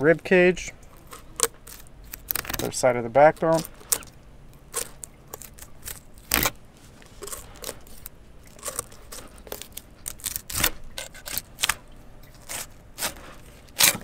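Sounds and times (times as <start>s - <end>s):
knife crunching through fish bone: 0.9s - 14.0s.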